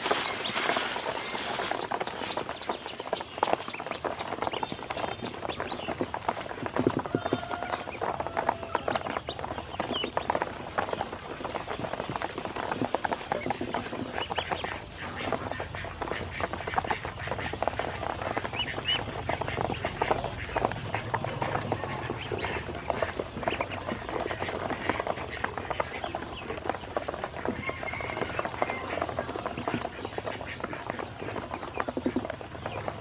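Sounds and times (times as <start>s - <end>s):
duckling peeping: 0.0s - 33.0s
ducklings dabbling in water: 0.0s - 33.0s.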